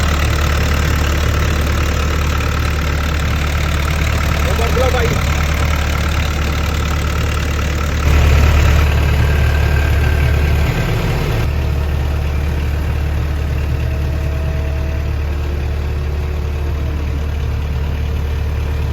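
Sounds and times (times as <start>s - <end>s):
excavator diesel engine idling: 0.0s - 18.9s.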